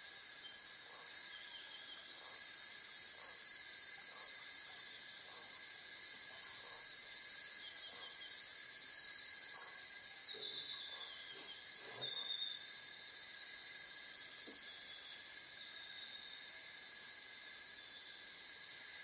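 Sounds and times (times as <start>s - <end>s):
shrill insect chorus: 0.0s - 19.0s.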